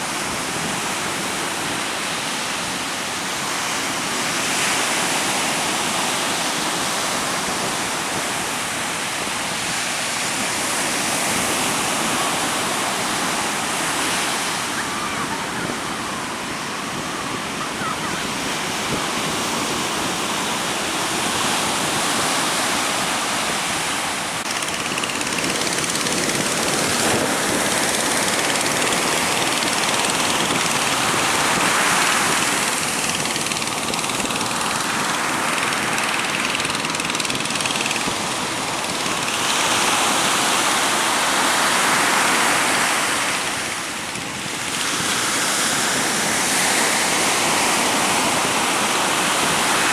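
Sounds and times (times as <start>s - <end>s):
strong wind: 0.0s - 49.9s
waves breaking: 0.0s - 49.9s.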